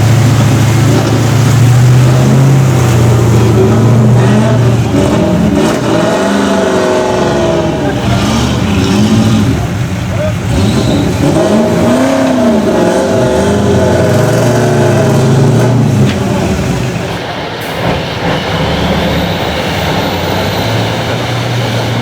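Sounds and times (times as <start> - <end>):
car engine revving: 0.0 - 22.0
car engines running: 0.0 - 22.0.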